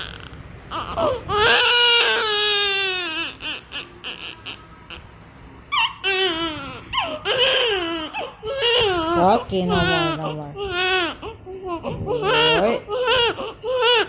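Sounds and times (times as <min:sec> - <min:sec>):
newborn baby crying: 0:00.0 - 0:05.1, 0:05.7 - 0:14.0.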